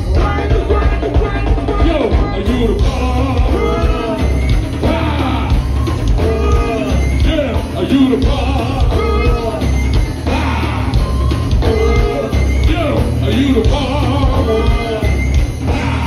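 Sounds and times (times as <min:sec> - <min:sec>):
heavy pulsing bass: 0:00.0 - 0:16.0
live band playing: 0:00.0 - 0:16.0
person singing into microphone: 0:00.0 - 0:16.0.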